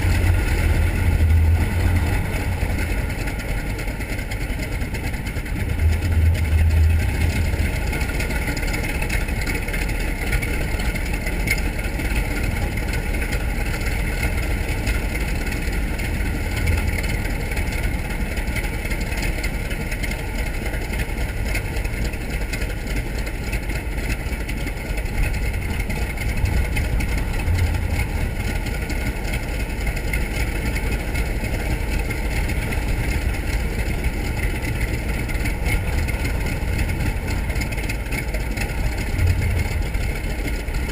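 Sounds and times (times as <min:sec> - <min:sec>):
radial aircraft engine running: 0:00.0 - 0:40.9.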